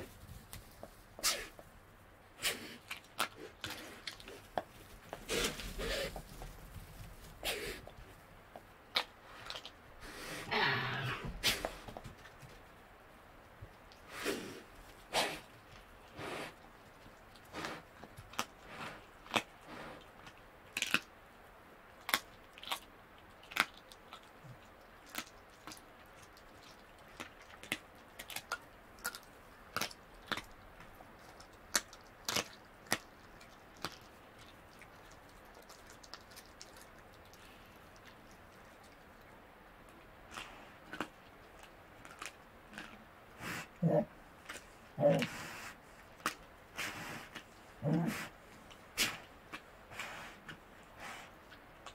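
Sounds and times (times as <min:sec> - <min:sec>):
animal crunching on bone: 0:02.4 - 0:09.8, 0:13.7 - 0:21.1, 0:22.0 - 0:51.9.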